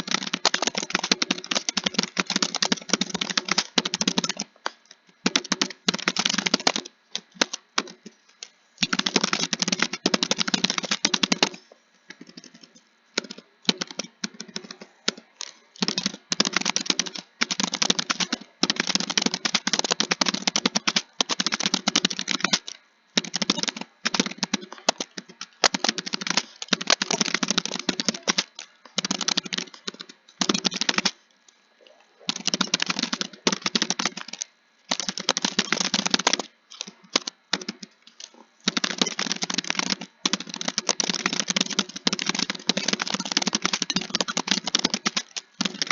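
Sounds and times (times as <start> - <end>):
keyboard typing: 0.0 - 45.9.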